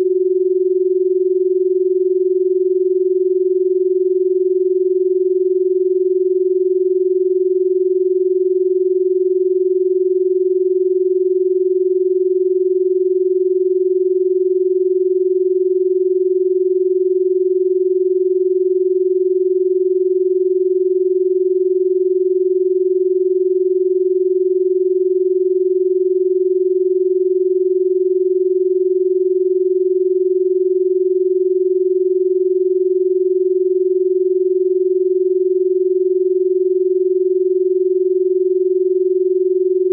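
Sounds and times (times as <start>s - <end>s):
steady electronic sine tone: 0.0s - 39.9s.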